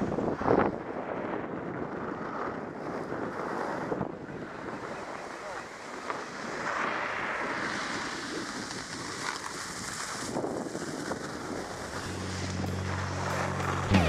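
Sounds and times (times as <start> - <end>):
wind on microphone: 0.0 - 13.9
skis sliding on snow: 0.0 - 14.0.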